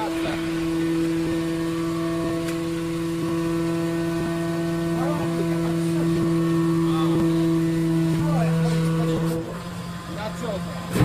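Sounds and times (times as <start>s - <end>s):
hydraulic power unit humming: 0.0s - 11.0s.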